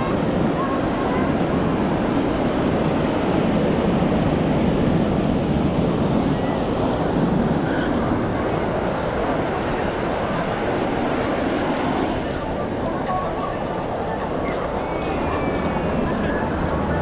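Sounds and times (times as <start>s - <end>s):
ocean surf washing onto beach: 0.0s - 17.0s
wind rumbling on microphone: 0.0s - 17.0s.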